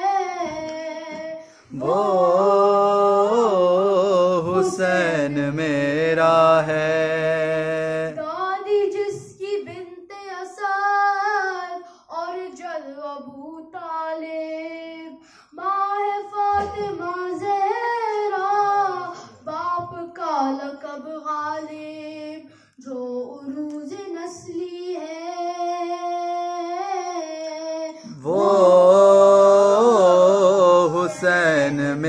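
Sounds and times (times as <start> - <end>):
boy singing into microphone: 0.0 - 32.0.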